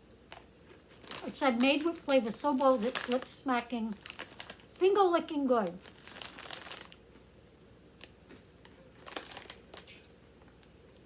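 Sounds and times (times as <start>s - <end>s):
snack bag crackling: 0.3s - 7.2s, 8.0s - 10.6s.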